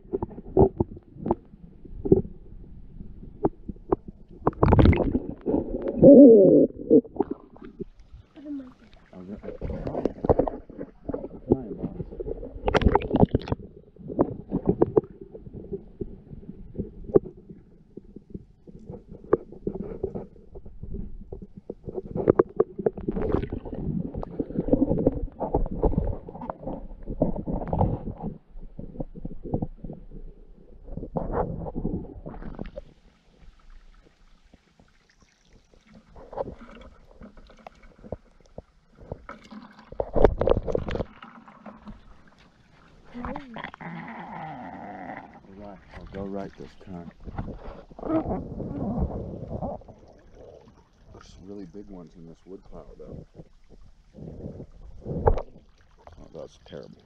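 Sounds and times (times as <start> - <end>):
underwater creek gurgling: 0.0 - 57.0
water splashing: 3.8 - 30.0, 30.8 - 44.3, 45.1 - 57.0.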